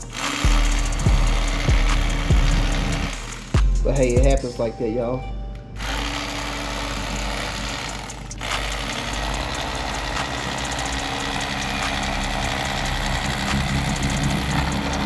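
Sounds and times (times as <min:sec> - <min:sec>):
electric knife motor hum: 0:00.0 - 0:03.8, 0:05.7 - 0:15.0.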